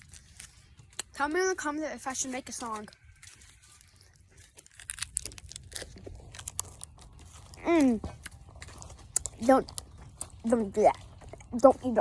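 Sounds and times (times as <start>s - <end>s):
small crackles and clicks: 0.0s - 11.7s.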